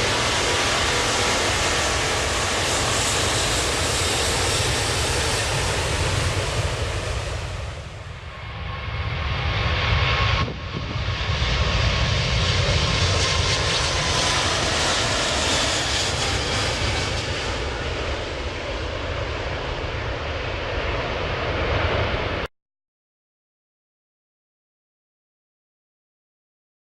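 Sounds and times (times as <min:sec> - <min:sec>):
jet engines roaring: 0:00.0 - 0:22.5.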